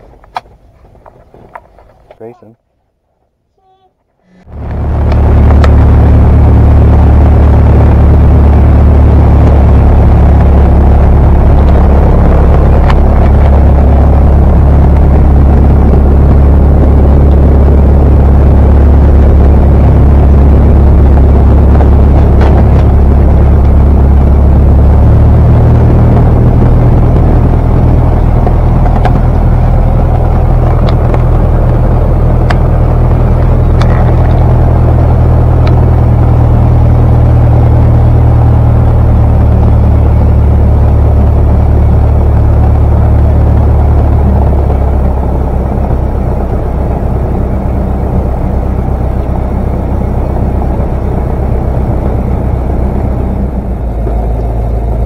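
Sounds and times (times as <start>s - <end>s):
propeller engine drone: 4.1s - 55.0s.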